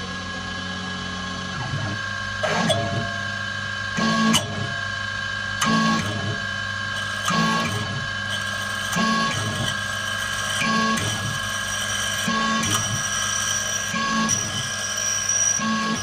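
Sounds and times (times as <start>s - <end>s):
high-pitched spindle whine: 0.0s - 16.0s.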